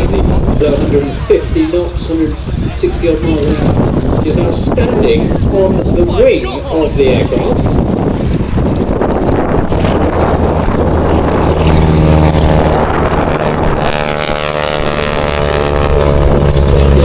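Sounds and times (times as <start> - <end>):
plane engine droning: 0.0 - 17.0
wind on microphone: 0.0 - 17.0.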